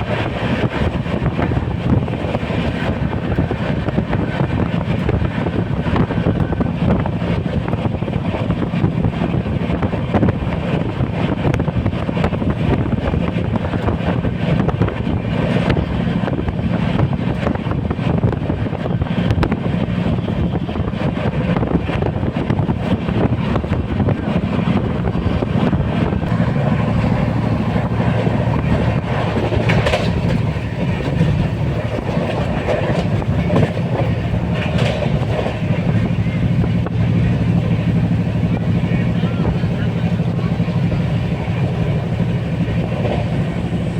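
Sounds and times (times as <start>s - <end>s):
train rumble: 0.0s - 43.9s
wheels clattering on rails: 0.0s - 43.9s.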